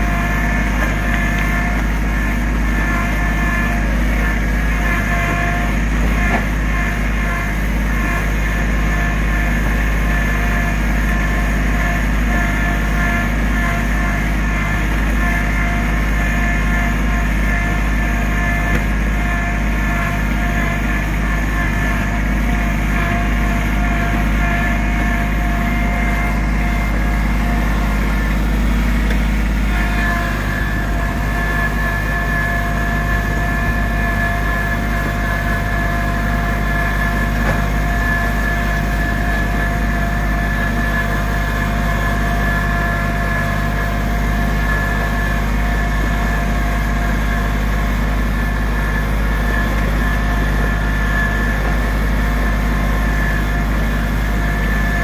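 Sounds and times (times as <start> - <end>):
steady whine: 0.0 - 55.0
tractor engine running: 0.0 - 55.0.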